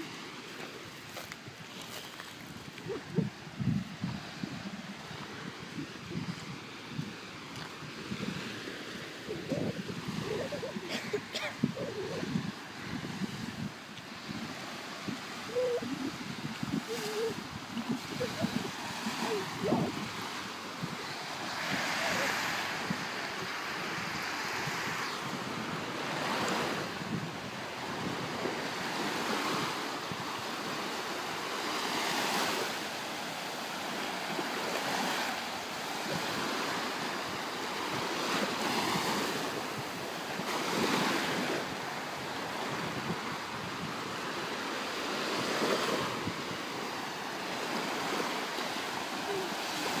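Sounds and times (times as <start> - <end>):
small waves breaking on beach: 0.0 - 50.0.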